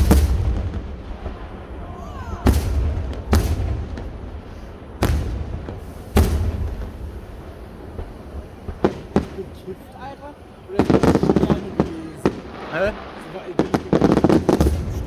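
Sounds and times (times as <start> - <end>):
firework shells bursting: 0.0 - 15.0
low rolling rumble: 0.0 - 15.0.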